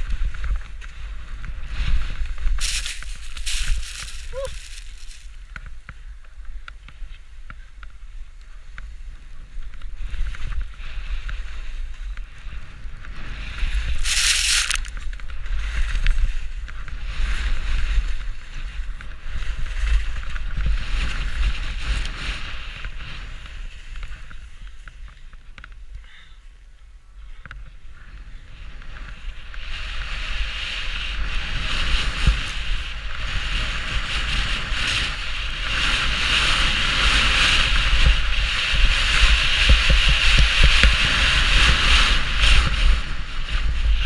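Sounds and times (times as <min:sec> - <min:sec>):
skis scraping on snow: 0:00.0 - 0:06.0, 0:06.8 - 0:25.8, 0:28.0 - 0:44.0
wind buffeting microphone: 0:00.0 - 0:25.9, 0:27.4 - 0:44.0.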